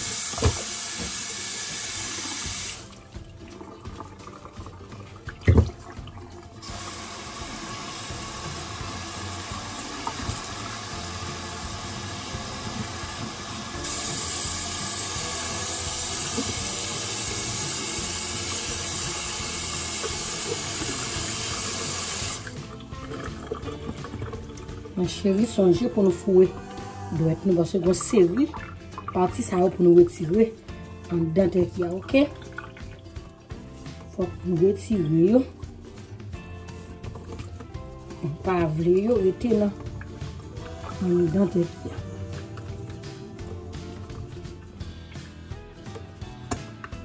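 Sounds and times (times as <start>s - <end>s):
tap water running into sink: 0.0s - 47.0s.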